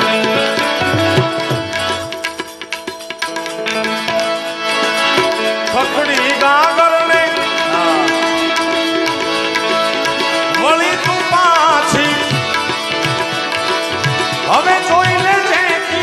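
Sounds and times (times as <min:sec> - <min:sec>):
ornamented gliding melody: 0:00.0 - 0:16.0
tabla strokes: 0:00.0 - 0:16.0.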